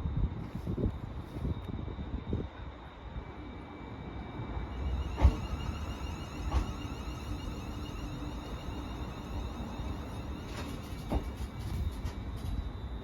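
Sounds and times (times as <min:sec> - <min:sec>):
electric train rumble and hum: 0:00.0 - 0:13.0.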